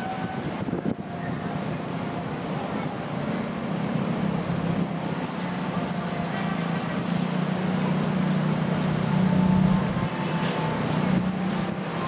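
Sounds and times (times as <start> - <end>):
motorcycle engines droning: 0.0 - 12.0
traffic noise: 0.0 - 12.0.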